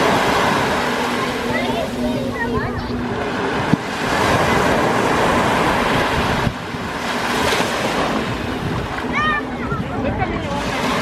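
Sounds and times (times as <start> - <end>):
surf washing onto shore: 0.0 - 11.0.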